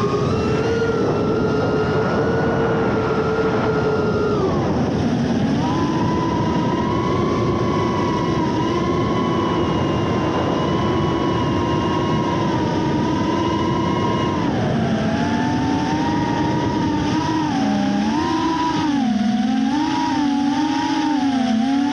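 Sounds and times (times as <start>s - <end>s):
quadcopter propellers whining: 0.0s - 21.9s.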